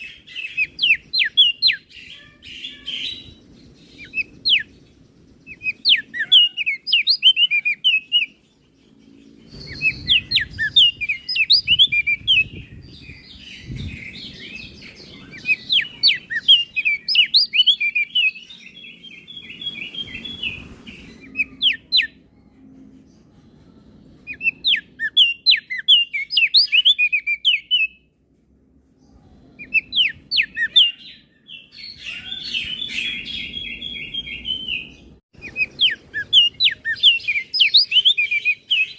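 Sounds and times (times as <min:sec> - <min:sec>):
bird twittering chirps: 0:00.0 - 0:22.2, 0:24.2 - 0:28.0, 0:29.6 - 0:38.9
buzzy bird trill: 0:00.0 - 0:22.2, 0:29.6 - 0:38.9.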